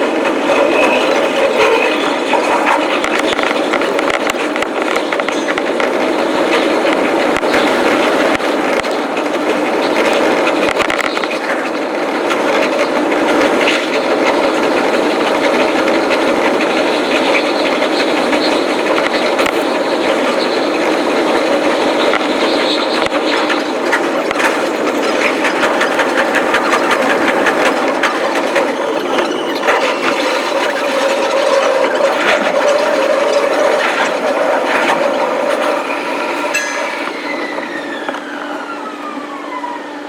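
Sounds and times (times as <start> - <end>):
electric train running: 0.0 - 40.0
wheels clattering on rails: 0.0 - 40.0.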